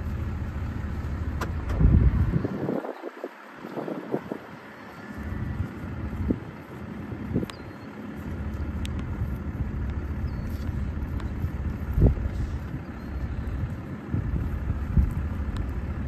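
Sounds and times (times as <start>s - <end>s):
vehicle engine running: 0.0s - 16.0s
wind buffeting microphone: 0.0s - 16.0s.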